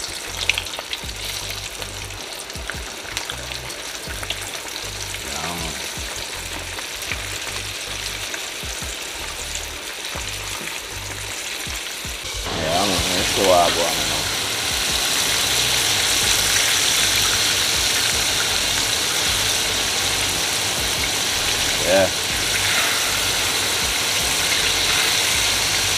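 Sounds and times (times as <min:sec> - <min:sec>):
chicken frying in oil: 0:00.0 - 0:25.9.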